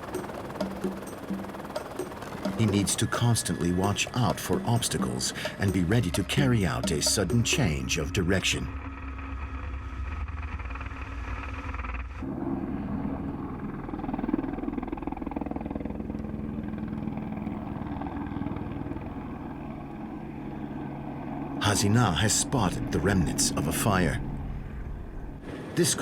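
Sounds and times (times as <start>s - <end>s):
aircraft engine droning: 0.0s - 26.0s.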